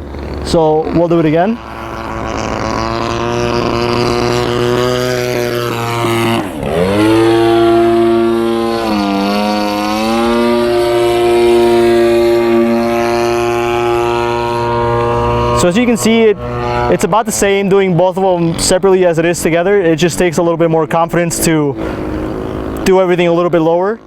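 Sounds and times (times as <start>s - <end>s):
model airplane motor whine: 0.0s - 24.0s.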